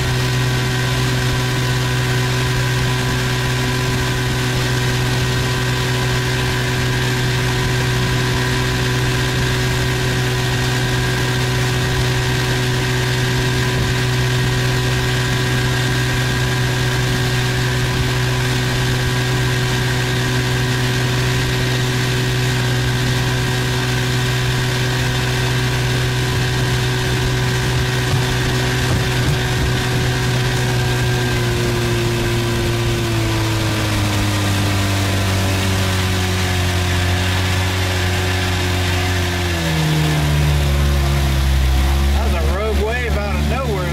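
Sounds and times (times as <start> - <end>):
outboard motor running: 0.0 - 43.9.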